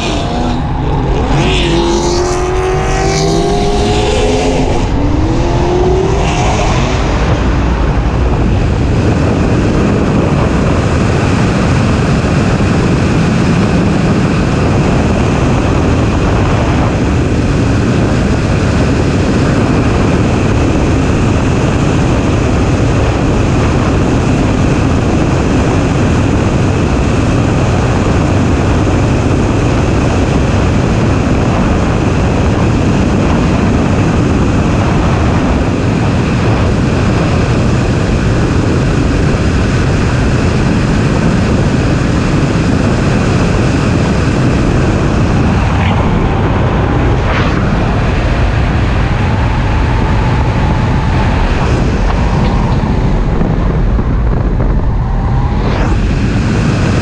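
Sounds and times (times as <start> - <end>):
car engine running at speed: 0.0 - 57.0
wind rush over microphone: 0.0 - 57.0.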